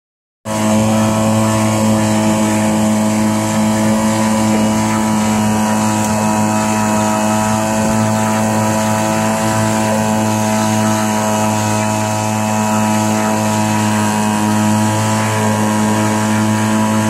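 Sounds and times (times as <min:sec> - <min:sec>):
outboard motor running: 0:00.4 - 0:17.0.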